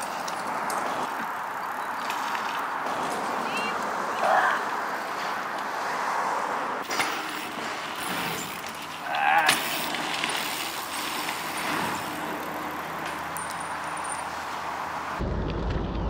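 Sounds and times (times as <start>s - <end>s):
bike tyres rolling on dirt: 0.0s - 16.0s.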